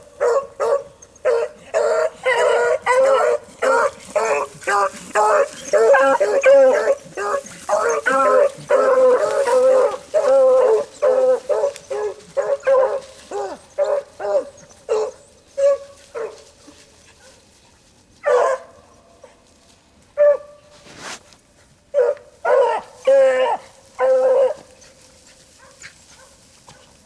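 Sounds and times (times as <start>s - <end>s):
dogs barking: 0.1s - 16.5s, 18.2s - 18.9s, 20.2s - 20.6s, 21.9s - 24.8s, 25.6s - 27.0s.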